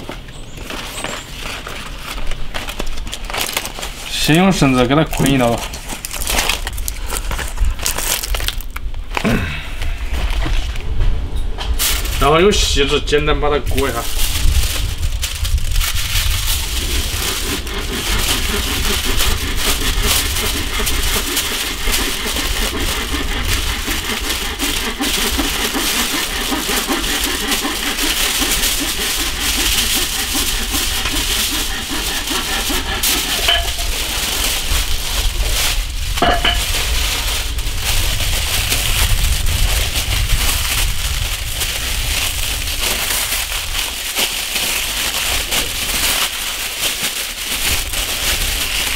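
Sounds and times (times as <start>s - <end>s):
aluminium foil crinkling: 0.5s - 9.4s, 11.8s - 12.3s, 13.7s - 48.9s.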